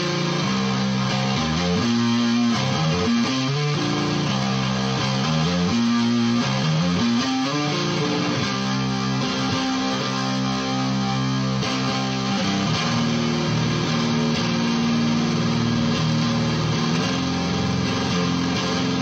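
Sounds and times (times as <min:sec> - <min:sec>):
fuzzy electric guitar chords: 0:00.0 - 0:19.0.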